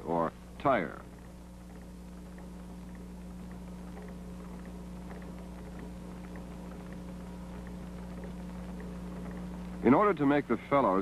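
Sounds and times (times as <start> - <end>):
film ticks and crackle: 0.0 - 11.0
low electrical hum: 0.0 - 11.0.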